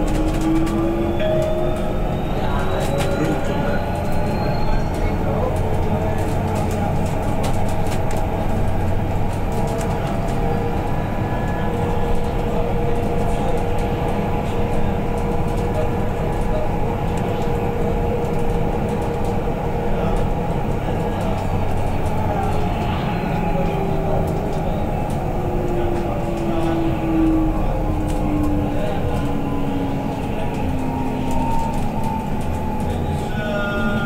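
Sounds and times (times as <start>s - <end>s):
bus road and rolling noise: 0.0s - 34.0s.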